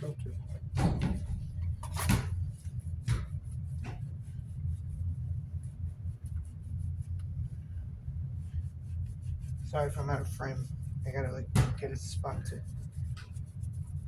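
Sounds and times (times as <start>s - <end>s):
scratchy rubbing of fan parts: 0.0s - 14.0s
steady low hum: 0.0s - 14.0s.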